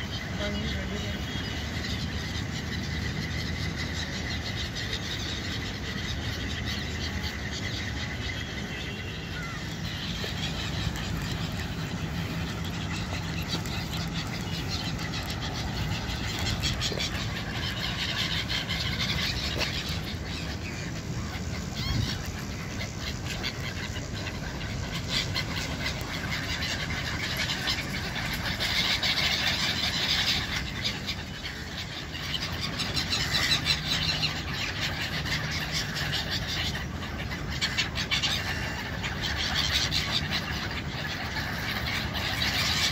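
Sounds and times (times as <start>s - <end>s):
city traffic rumble: 0.0s - 42.9s
gulls calling: 0.0s - 42.9s.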